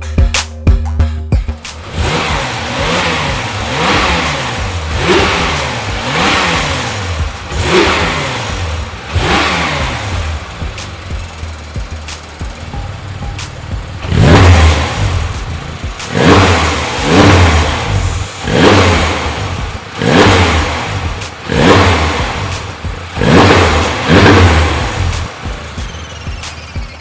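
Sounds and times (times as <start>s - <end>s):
car engine revving: 1.5s - 27.0s.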